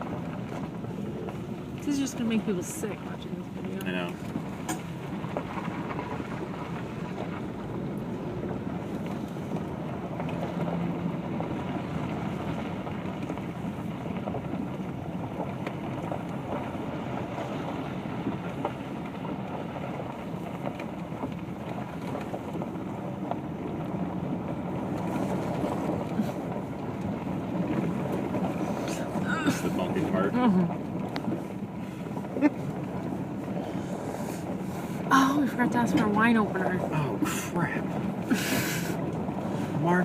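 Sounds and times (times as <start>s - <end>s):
vehicle engine and tyre noise: 0.0s - 40.0s.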